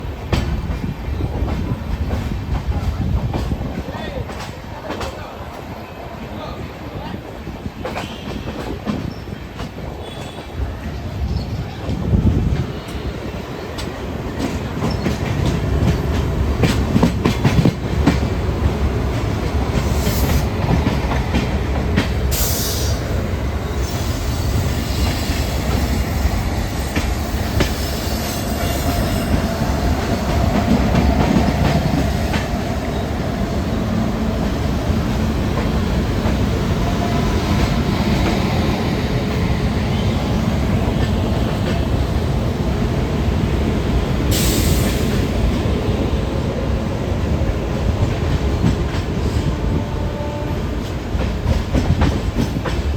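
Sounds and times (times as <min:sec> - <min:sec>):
train wheels rumbling on rails: 0:00.0 - 0:52.9
rail joint clacks: 0:00.1 - 0:05.7, 0:07.7 - 0:42.4, 0:47.5 - 0:52.9.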